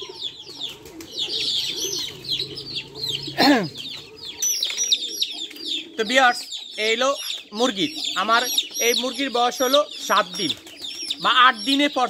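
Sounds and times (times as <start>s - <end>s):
chicks peeping: 0.0s - 12.0s
pigeons cooing: 0.0s - 12.0s.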